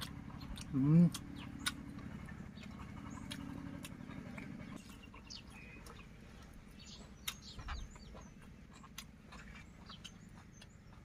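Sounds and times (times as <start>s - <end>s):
chewing roasted chicken: 0.0s - 11.0s
low steady hum: 0.0s - 11.0s
faint bird chirps: 0.4s - 11.0s.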